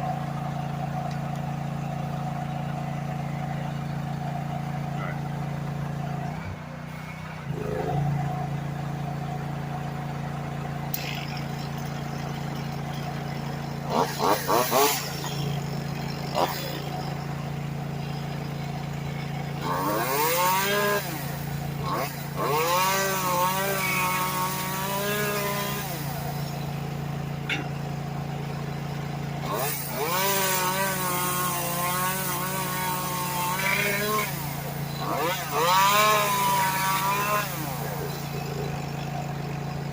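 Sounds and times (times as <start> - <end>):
chainsaw idling: 0.0 - 39.9.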